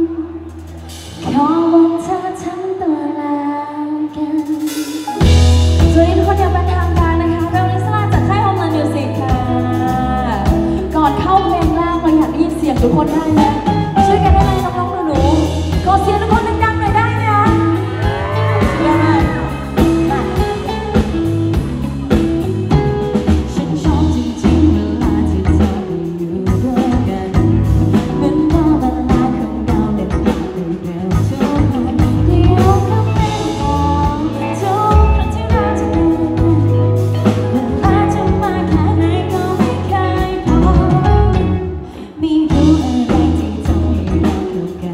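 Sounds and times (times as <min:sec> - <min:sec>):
pop rock band playing: 0:00.0 - 0:02.9, 0:04.1 - 0:44.9
woman singing into microphone: 0:01.2 - 0:21.3, 0:22.1 - 0:44.9.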